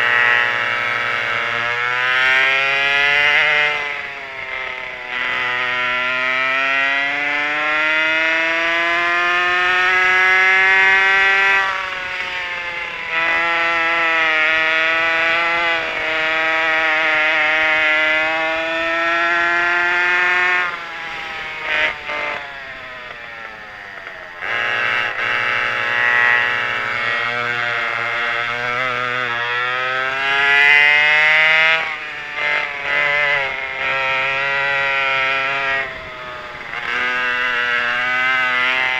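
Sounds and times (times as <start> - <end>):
two-stroke kart engines racing: 0.0 - 38.9.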